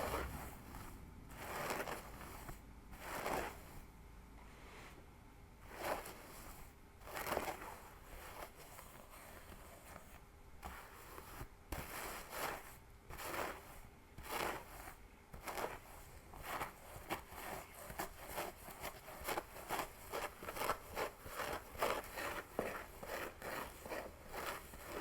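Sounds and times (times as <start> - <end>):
fingers scratching scalp and hair: 0.0 - 3.8, 5.7 - 25.0.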